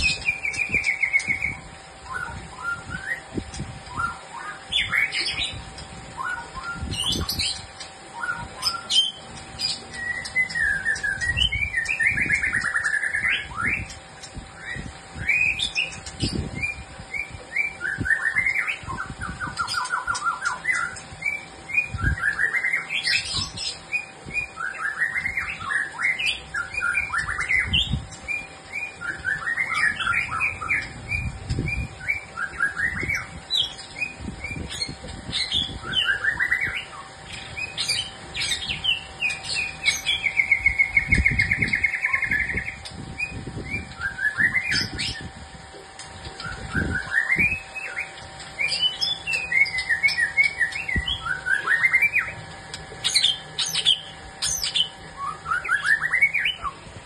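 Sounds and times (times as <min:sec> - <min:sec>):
songbird chirps and trills: 0:00.0 - 0:57.0.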